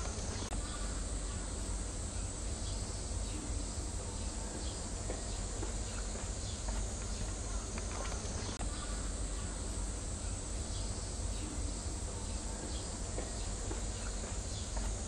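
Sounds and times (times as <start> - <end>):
faint insects: 0.0 - 15.0.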